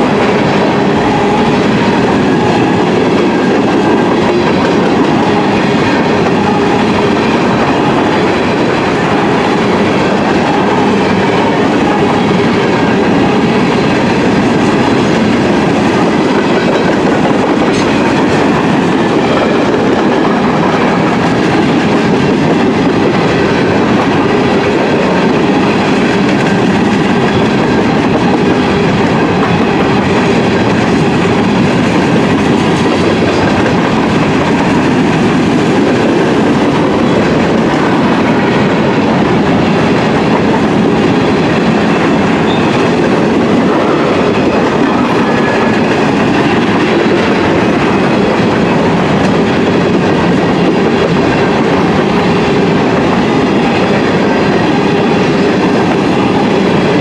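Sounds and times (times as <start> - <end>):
steel wheels clattering on rails: 0.0 - 57.0.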